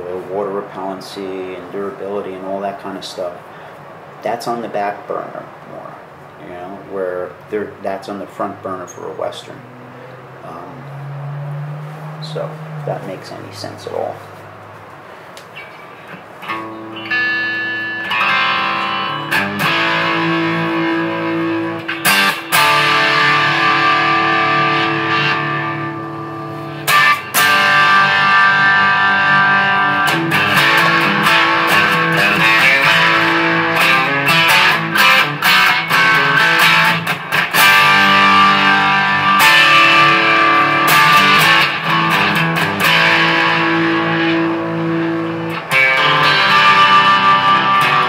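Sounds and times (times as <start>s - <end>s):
electric guitar playing: 9.5s - 48.0s.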